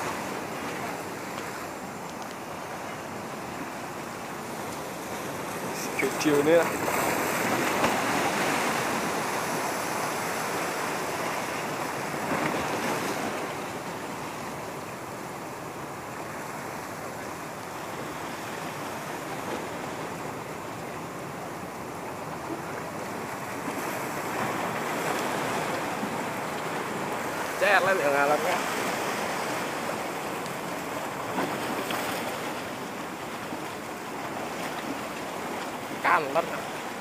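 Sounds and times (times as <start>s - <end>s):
waves washing against rocks: 0.0s - 37.0s.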